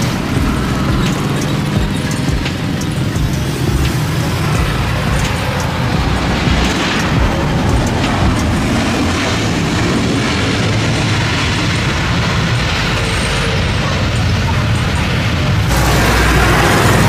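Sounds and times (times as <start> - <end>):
deep low rumble: 0.0 - 17.0
jet engine noise: 0.0 - 17.0.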